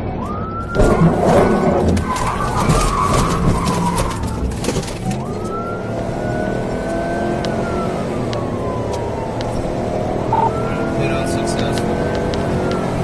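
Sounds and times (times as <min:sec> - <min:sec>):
car engine and road noise: 0:00.0 - 0:13.0
police siren wailing: 0:00.0 - 0:13.0.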